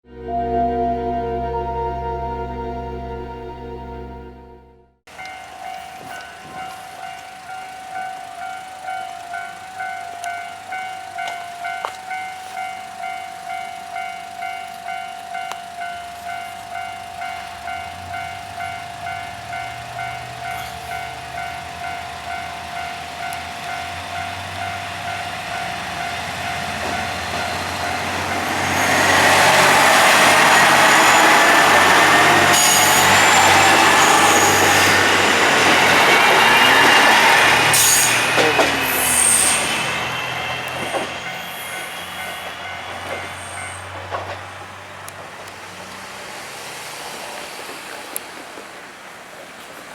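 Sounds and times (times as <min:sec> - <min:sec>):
level crossing bell clanging: 0:00.0 - 0:44.5
diesel train engine hum: 0:00.0 - 0:49.9
train wheels rushing on rail: 0:05.1 - 0:49.9.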